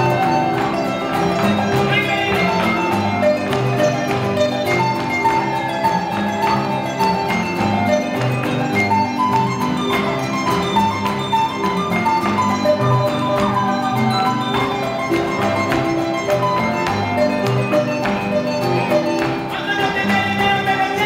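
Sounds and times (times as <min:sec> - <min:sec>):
harp: 0:00.0 - 0:20.0
marimba: 0:00.0 - 0:21.0
strummed guitars: 0:00.0 - 0:21.0.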